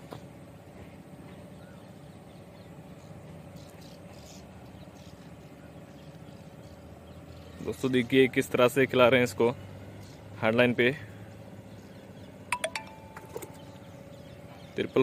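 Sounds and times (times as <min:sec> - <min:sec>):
faint hum: 0:00.0 - 0:08.8, 0:09.4 - 0:15.0.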